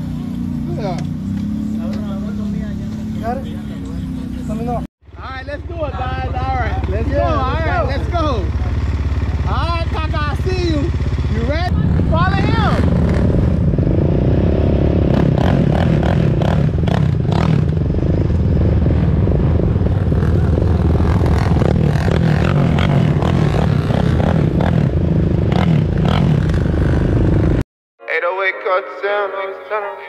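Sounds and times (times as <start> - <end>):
atv engine running: 0.0 - 27.6.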